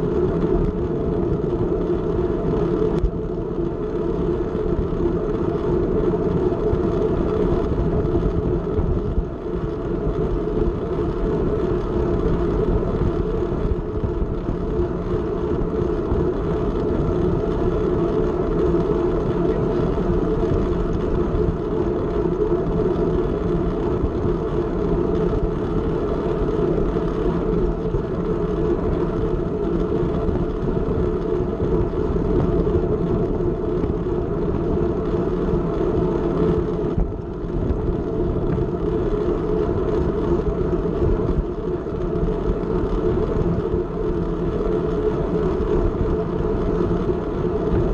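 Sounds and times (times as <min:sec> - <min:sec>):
bicycle tyres rumbling on track: 0:00.0 - 0:47.9
wind on microphone: 0:00.0 - 0:47.9.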